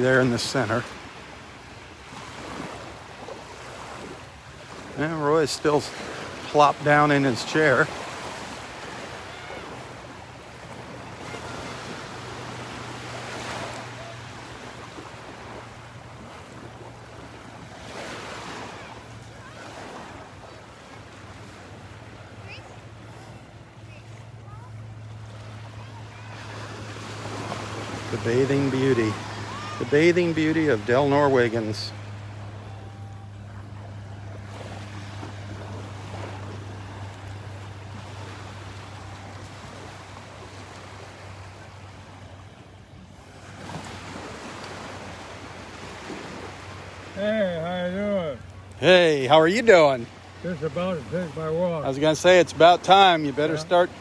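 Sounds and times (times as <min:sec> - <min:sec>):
surf washing onto beach: 0:00.0 - 0:54.0
wind: 0:00.0 - 0:54.0.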